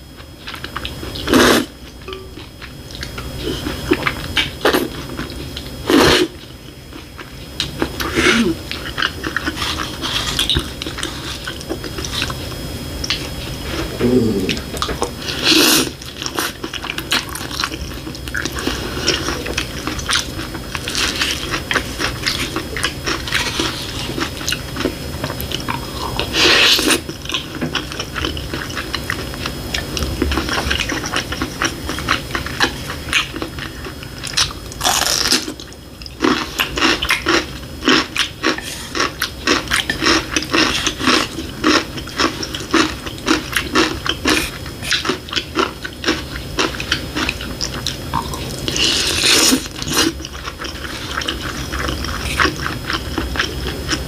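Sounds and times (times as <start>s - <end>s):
person chewing food: 0.1s - 54.0s.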